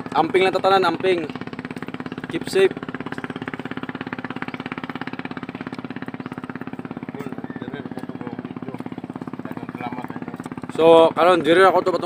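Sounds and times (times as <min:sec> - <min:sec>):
low hum: 0:00.0 - 0:12.0
small engine chugging: 0:00.0 - 0:12.0.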